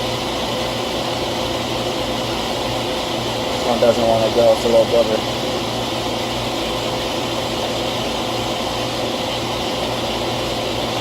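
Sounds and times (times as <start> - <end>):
machine hum and rush: 0.0 - 11.0.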